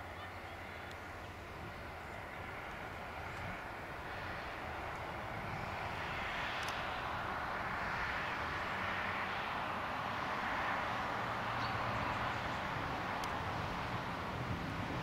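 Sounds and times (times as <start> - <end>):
tractor hedge-cutter drone: 0.0 - 15.0.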